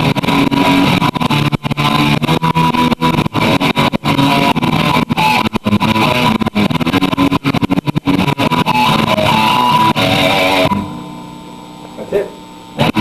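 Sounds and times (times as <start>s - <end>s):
guitar picked notes and chords: 0.0s - 13.0s.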